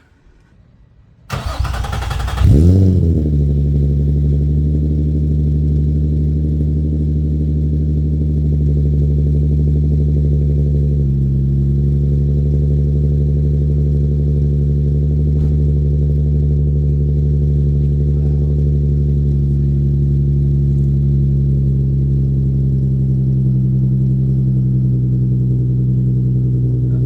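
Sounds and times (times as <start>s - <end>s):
car engine idling: 1.3s - 27.0s.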